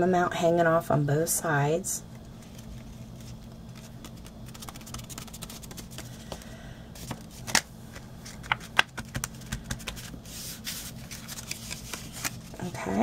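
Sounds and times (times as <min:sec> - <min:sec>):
paper rustling: 0:02.2 - 0:12.6.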